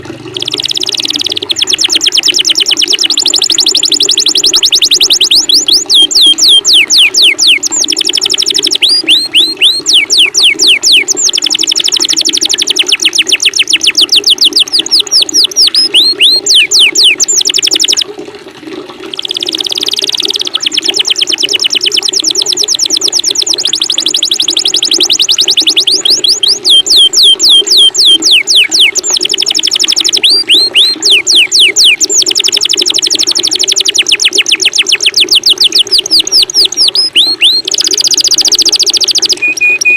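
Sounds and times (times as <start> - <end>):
running water: 0.0 - 39.9
songbird fast whistles: 0.4 - 18.0, 23.6 - 39.9.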